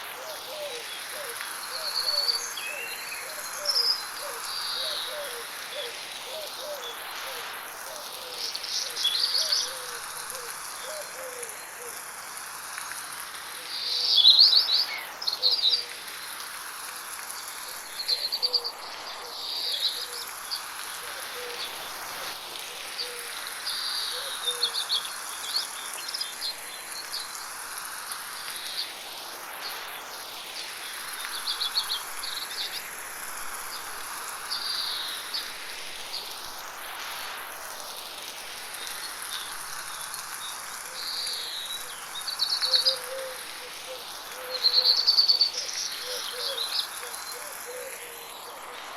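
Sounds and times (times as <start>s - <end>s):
light rain hiss: 0.0s - 48.9s.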